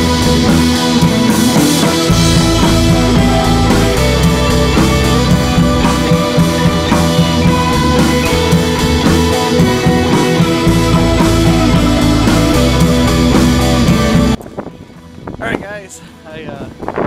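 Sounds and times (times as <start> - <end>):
drum-kit beat: 0.0 - 14.4
rock music with electric guitar: 0.0 - 17.0.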